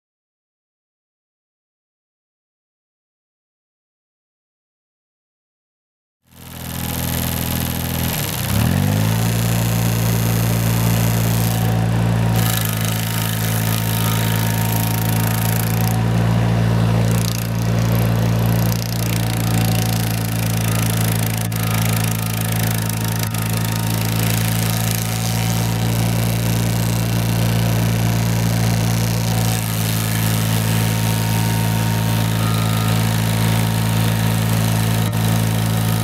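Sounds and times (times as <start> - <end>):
noisy whirr: 6.3 - 36.0
stump grinder running: 6.3 - 36.0.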